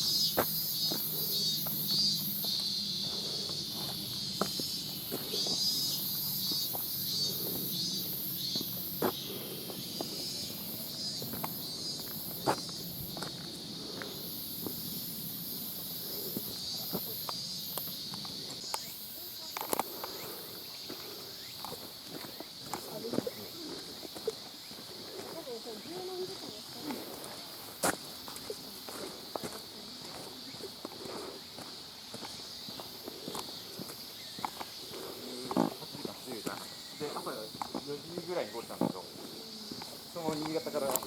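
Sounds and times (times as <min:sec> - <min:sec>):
insects shrilling: 0:00.0 - 0:41.0.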